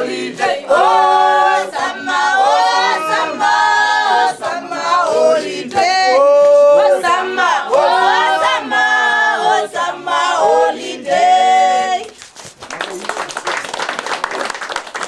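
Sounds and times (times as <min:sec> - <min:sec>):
group singing a cappella: 0:00.0 - 0:12.2.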